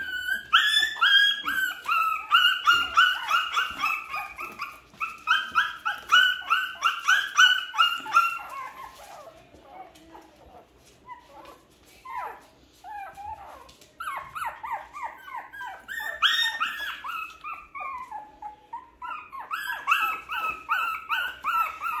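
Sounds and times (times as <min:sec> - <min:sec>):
puppies yelping and whimpering: 0:00.0 - 0:22.0.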